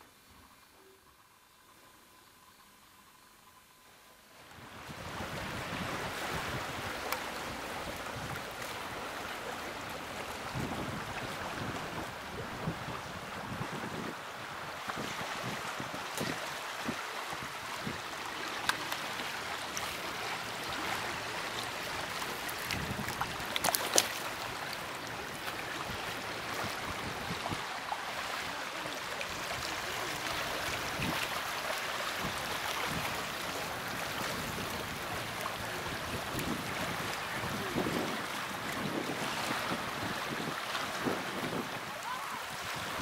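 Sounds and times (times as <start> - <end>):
river water flowing: 0.0 - 43.0.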